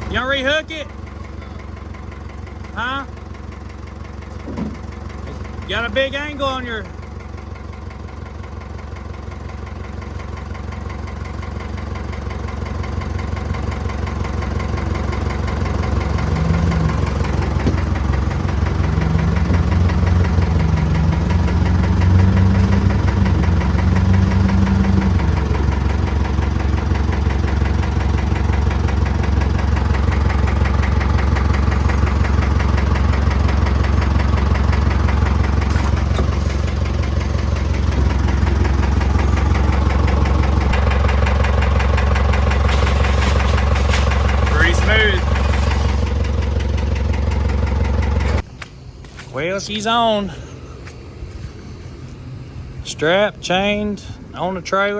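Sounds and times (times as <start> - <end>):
engine running under load: 0.0 - 54.9.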